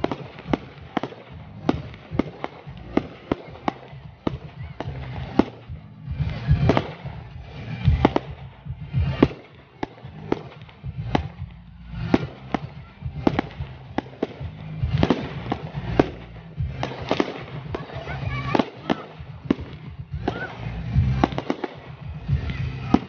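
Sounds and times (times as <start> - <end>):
fireworks bangs with crackling: 0.0 - 23.0.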